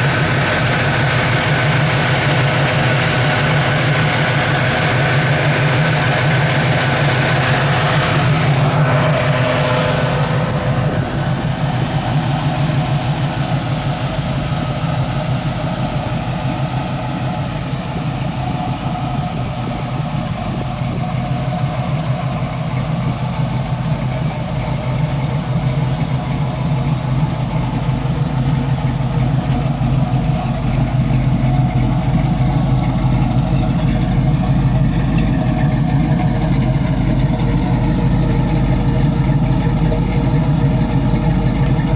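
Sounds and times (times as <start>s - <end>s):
car engine running through exhaust: 0.0s - 41.9s.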